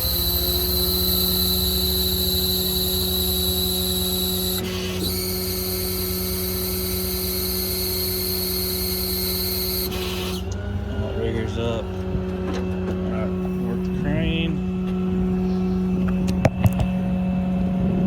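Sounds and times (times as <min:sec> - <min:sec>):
diesel engine running: 0:00.0 - 0:18.0
hydraulic system whine: 0:00.0 - 0:18.0.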